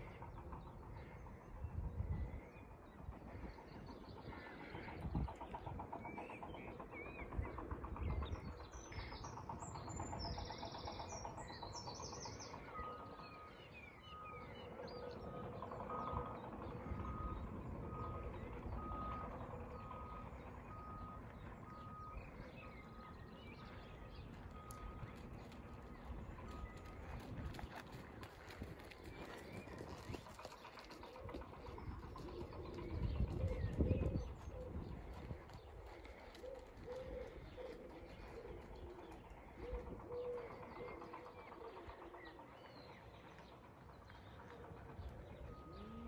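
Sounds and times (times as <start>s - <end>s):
wind buffeting microphone: 0.0s - 13.6s, 14.6s - 46.0s.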